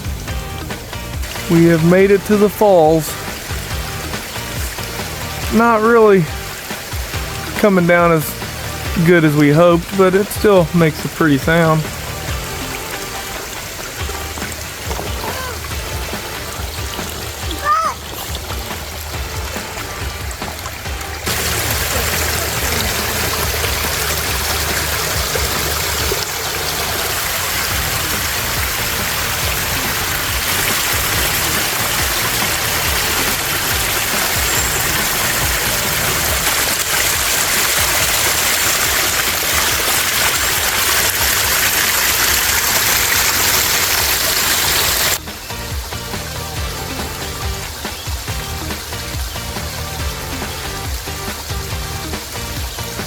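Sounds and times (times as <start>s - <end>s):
waterfall splashing: 0.0s - 53.0s.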